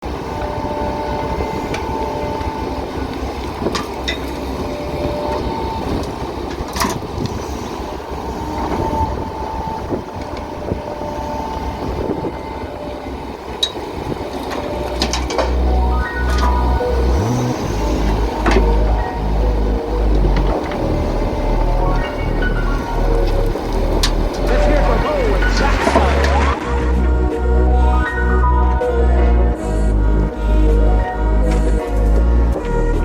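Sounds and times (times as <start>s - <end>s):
excavator engine running: 0.0s - 33.0s
hydraulic whine: 0.0s - 33.0s.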